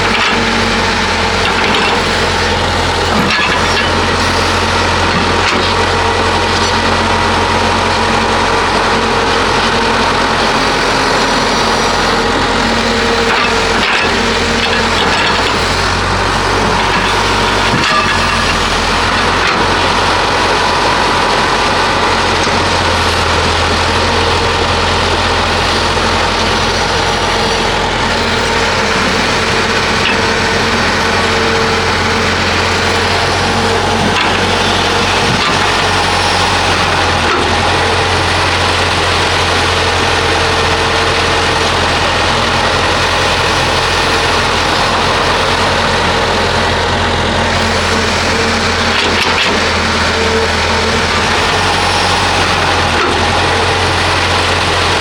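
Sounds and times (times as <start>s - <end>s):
diesel excavator running: 0.0s - 55.0s.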